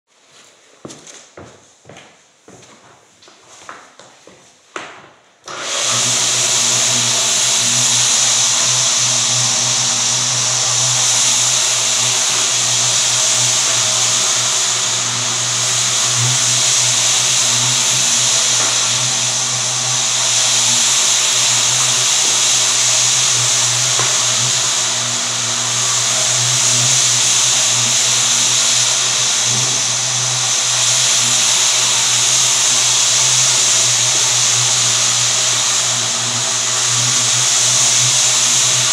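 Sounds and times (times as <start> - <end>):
floor buffer running on wood: 5.4 - 38.9.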